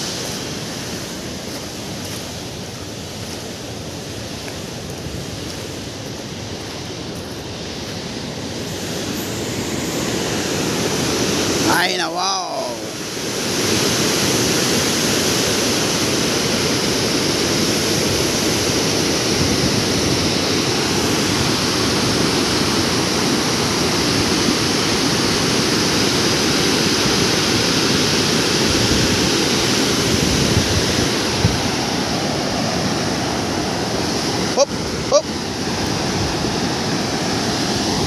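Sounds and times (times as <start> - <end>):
water rushing down spillway: 0.0 - 38.0.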